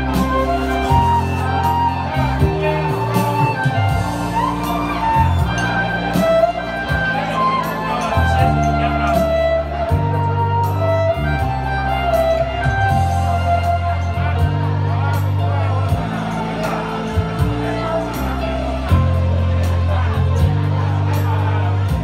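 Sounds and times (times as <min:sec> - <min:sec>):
deep bass notes: 0:00.0 - 0:22.0
keyboard accompaniment: 0:00.0 - 0:22.0
violin playing ballad melody: 0:00.0 - 0:22.0.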